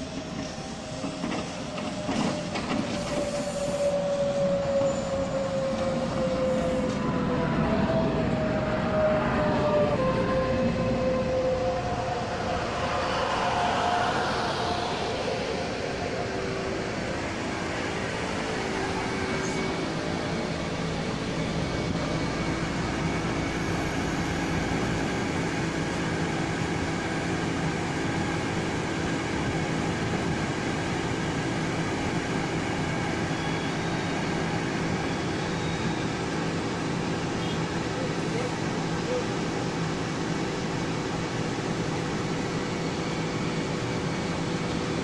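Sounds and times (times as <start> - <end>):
electric train coming to a stop: 0.0 - 45.0.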